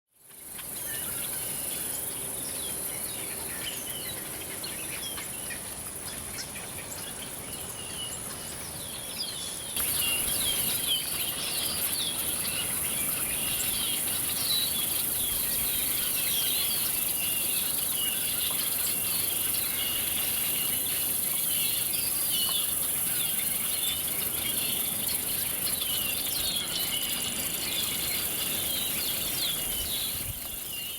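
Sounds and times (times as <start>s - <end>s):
insects droning: 0.2s - 30.9s.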